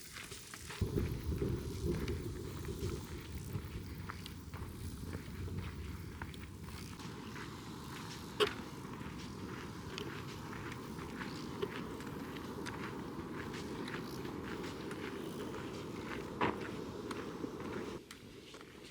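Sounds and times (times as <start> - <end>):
footsteps on trail: 0.0 - 18.9
low rumbling noise: 0.8 - 18.0.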